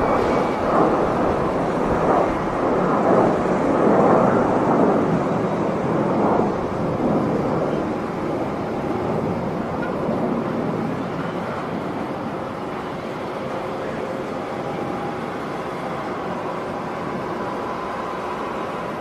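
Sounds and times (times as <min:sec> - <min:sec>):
jet engine rumble: 0:00.0 - 0:19.0.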